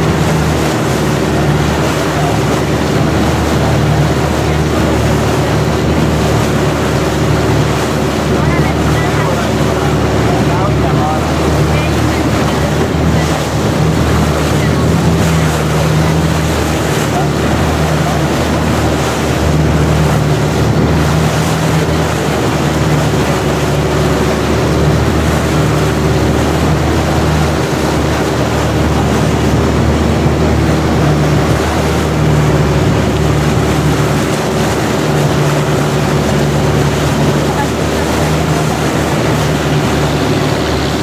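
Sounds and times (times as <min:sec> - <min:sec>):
boat engine droning: 0:00.0 - 0:41.0
water rushing: 0:00.0 - 0:41.0
wind: 0:00.0 - 0:41.0.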